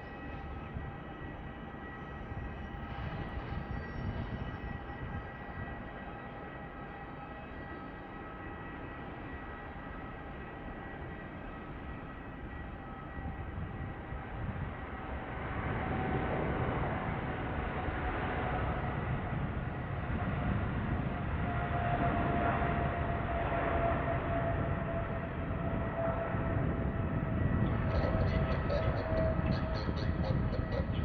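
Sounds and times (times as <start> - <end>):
jet engines whining and rumbling: 0.0 - 31.0.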